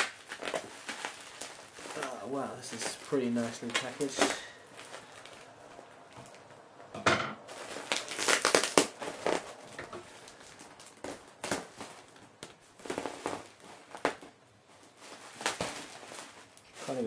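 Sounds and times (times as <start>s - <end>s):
plastic wrapping crinkling: 0.0s - 6.6s, 7.5s - 17.0s.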